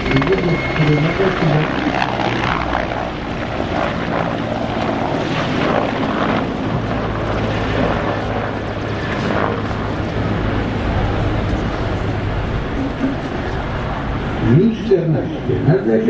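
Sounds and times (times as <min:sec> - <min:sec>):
helicopter rotor and engine noise: 0:00.0 - 0:16.0.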